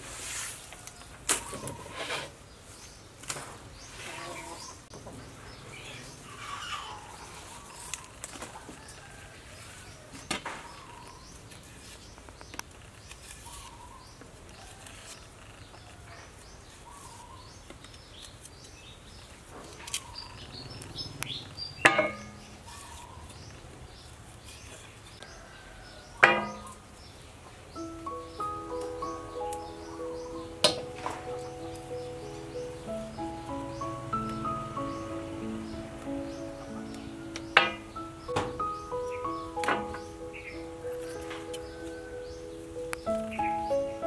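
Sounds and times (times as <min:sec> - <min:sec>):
leafy stems rustling: 0:00.0 - 0:04.8, 0:05.8 - 0:44.0
birds chirping: 0:00.7 - 0:14.8, 0:15.6 - 0:44.0.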